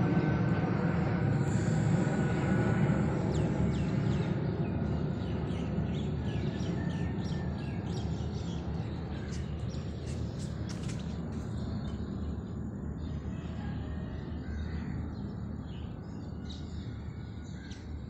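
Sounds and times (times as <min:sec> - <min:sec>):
jet airliner rumble overhead: 0:00.0 - 0:18.0.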